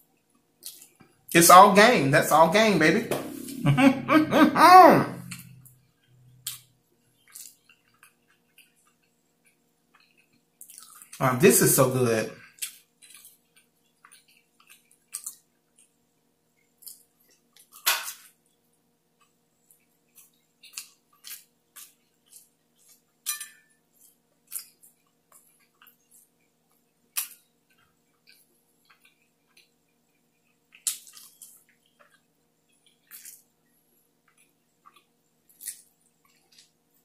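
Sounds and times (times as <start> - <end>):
faint steady hum: 0.0 - 37.0
man chewing with wet smacks: 0.1 - 1.2, 6.0 - 11.2, 12.4 - 23.3, 23.9 - 37.0.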